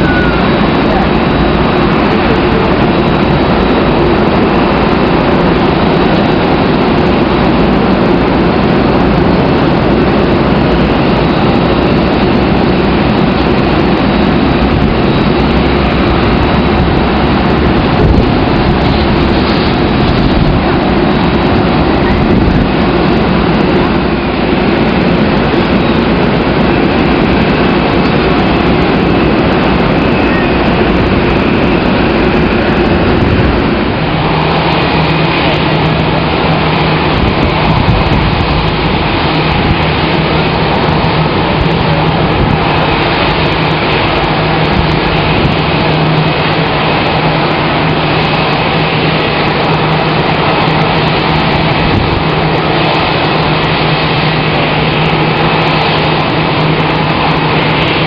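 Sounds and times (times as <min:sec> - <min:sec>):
jet engine noise: 0:00.0 - 0:58.0.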